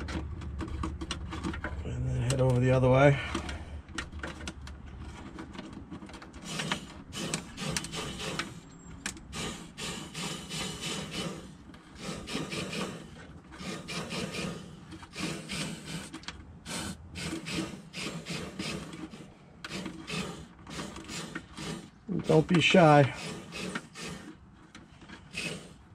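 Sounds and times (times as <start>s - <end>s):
plastic hose scraping inside metal: 0.0s - 25.9s.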